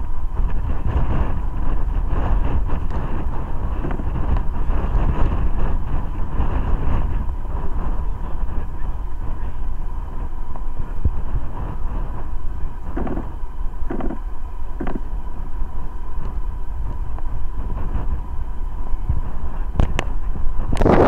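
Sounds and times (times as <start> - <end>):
jet engines running: 0.0 - 21.0
wind buffeting microphone: 0.0 - 21.0.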